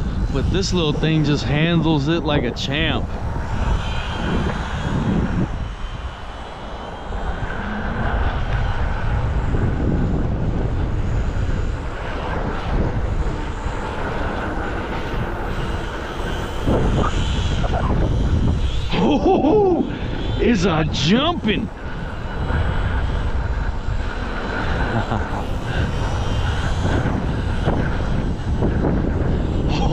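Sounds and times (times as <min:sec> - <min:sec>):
gusty wind on microphone: 0:00.0 - 0:29.9
small electric motor whine: 0:00.0 - 0:29.9.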